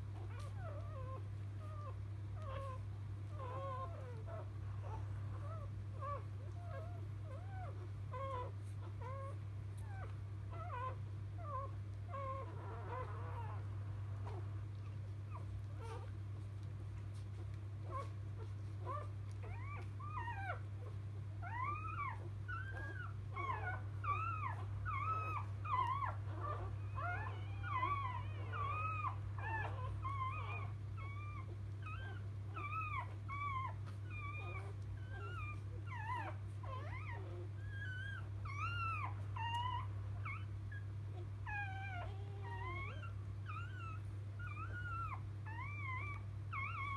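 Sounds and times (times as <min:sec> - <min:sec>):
steady low hum: 0:00.0 - 0:46.9
puppy squeaking and whimpering: 0:00.1 - 0:46.9.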